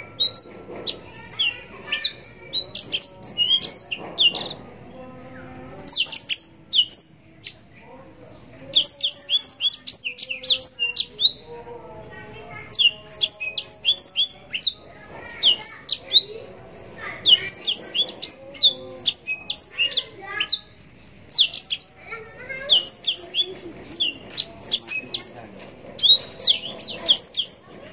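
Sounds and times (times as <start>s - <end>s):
canary singing chirps and trills: 0.0s - 27.9s.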